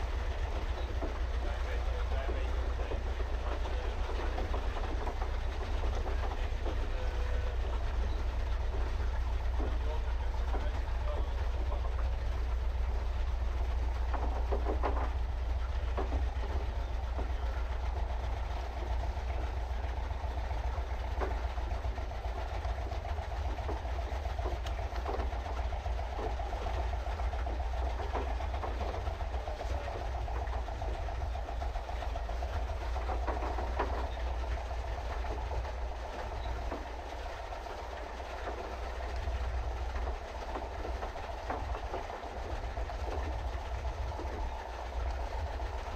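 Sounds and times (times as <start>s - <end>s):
paddle wheel churning water: 0.0s - 45.9s.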